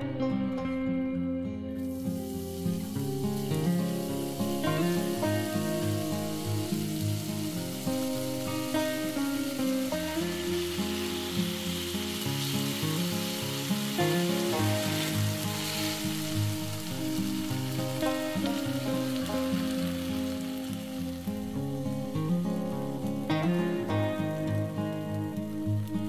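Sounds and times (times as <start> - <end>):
background music: 0.0 - 26.0
potato sizzling in oil: 1.8 - 26.0.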